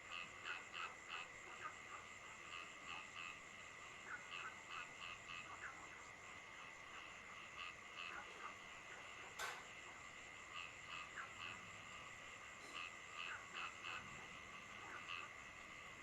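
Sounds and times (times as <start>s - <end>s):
frogs croaking: 0.0s - 16.0s.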